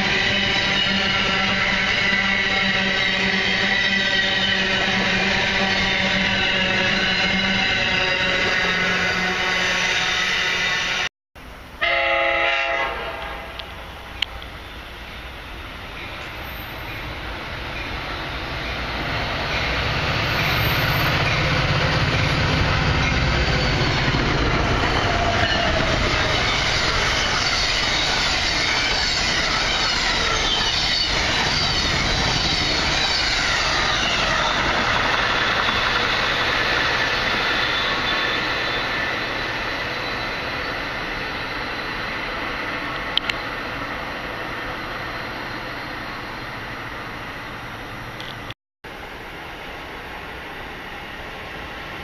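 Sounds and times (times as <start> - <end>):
wheel-on-rail squeal and clatter: 0.0 - 11.0, 14.2 - 46.6
train passing with rumble: 0.0 - 11.1, 11.8 - 52.0.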